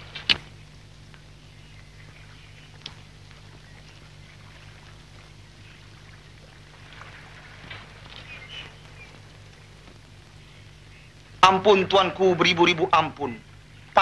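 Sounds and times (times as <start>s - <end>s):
faint scattered sounds: 0.0s - 14.0s
film soundtrack hiss and hum: 0.0s - 14.0s.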